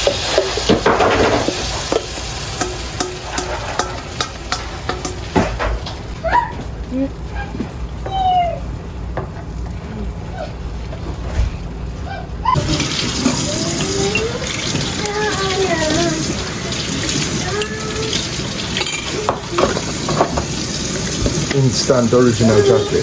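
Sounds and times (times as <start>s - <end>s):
kitchen water running: 0.0s - 9.3s, 12.4s - 23.0s.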